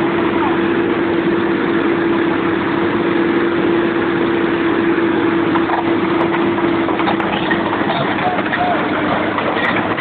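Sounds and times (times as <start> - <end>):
truck engine droning under load: 0.0 - 10.0.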